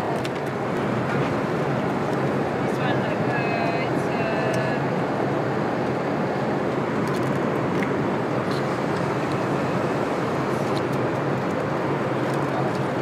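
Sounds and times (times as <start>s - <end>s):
airplane cabin airflow and engines: 0.0s - 13.0s.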